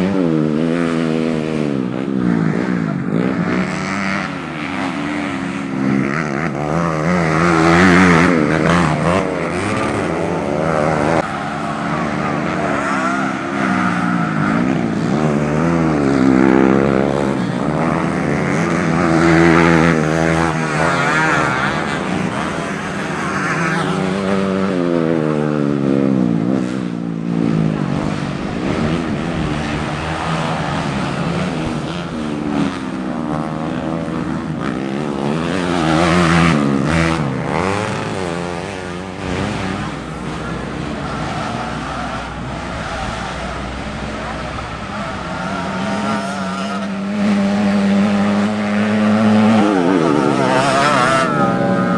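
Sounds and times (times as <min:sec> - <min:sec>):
racing motorcycles revving: 0:00.0 - 0:51.9.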